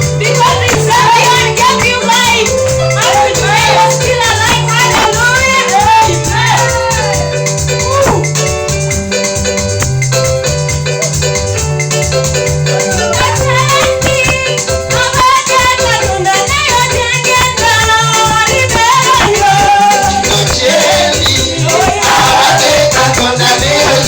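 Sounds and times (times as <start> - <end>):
bass line: 0.0 - 24.0
keyboard chords: 0.0 - 24.0
shakers rattling: 0.0 - 24.0
voices singing: 0.2 - 8.3, 12.7 - 24.0.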